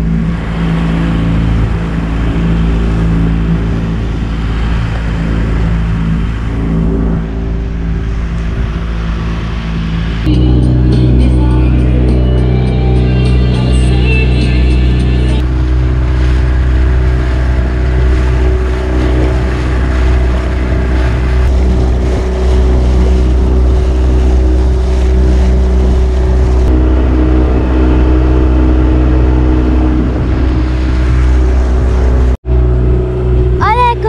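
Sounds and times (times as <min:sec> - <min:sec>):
outboard motor running: 0:00.0 - 0:34.0
water rushing past: 0:00.0 - 0:34.0.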